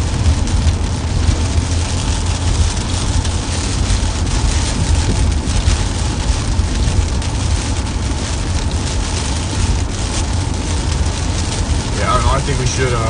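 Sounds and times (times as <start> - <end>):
car road and engine rumble: 0.0 - 13.0
rain hitting car: 0.0 - 13.0.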